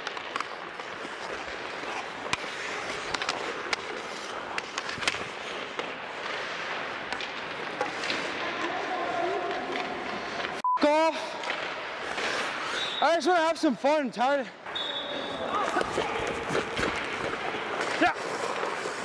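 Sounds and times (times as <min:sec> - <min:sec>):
hockey sticks and pucks clacking: 0:00.0 - 0:10.6, 0:11.3 - 0:14.0, 0:14.7 - 0:19.0
skates scraping ice: 0:00.0 - 0:19.0.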